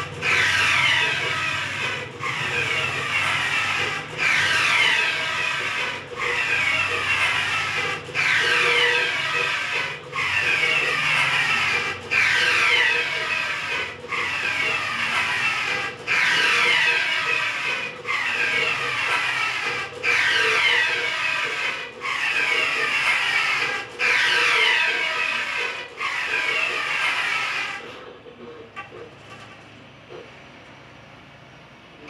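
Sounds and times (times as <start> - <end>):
printer carriage whirring back and forth: 0.0 - 32.0.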